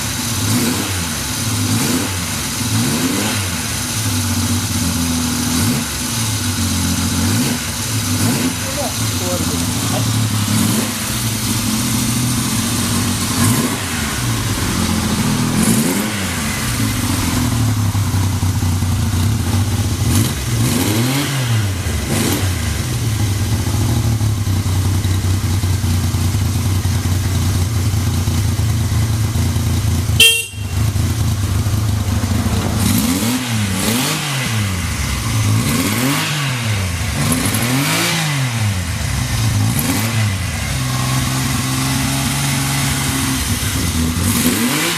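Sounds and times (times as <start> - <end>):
engine idling with throttle blips: 0.0 - 44.9.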